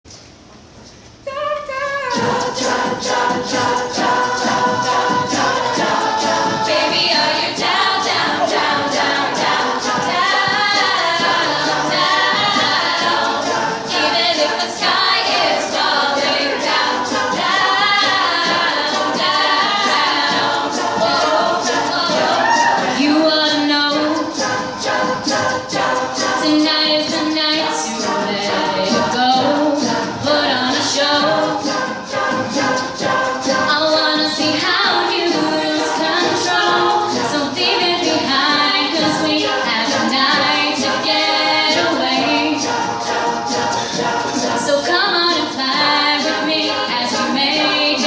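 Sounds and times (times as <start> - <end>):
steady rhythmic beat: 2.0 - 48.0
group singing in close harmony: 2.1 - 48.0.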